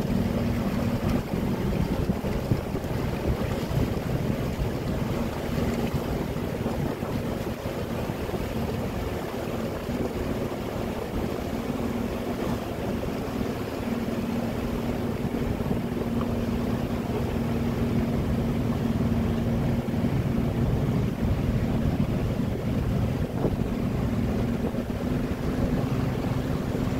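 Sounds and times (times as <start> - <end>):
boat engines humming: 0.0 - 26.9
water wash: 0.0 - 26.9
wind noise: 0.0 - 26.9.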